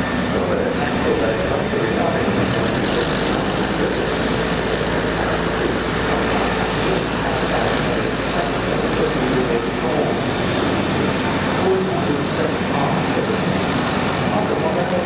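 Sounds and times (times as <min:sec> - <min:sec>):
jet engine noise: 0:00.0 - 0:15.0.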